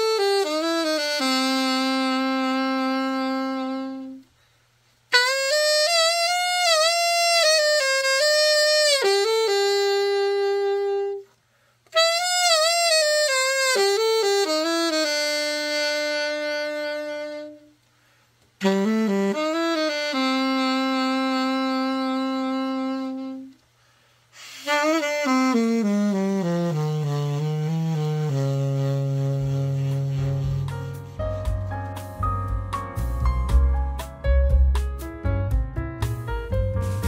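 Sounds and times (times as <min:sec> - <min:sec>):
solo saxophone melody: 0:00.0 - 0:34.1.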